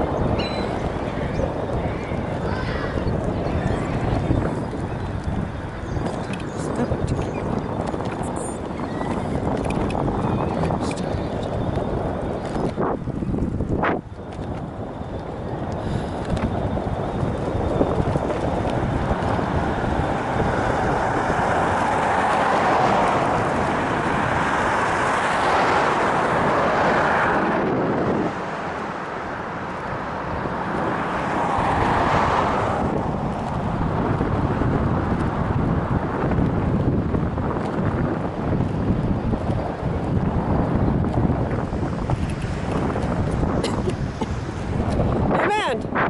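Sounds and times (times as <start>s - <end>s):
road traffic passing: 0.0s - 46.0s
wind rushing over microphone: 0.0s - 46.0s.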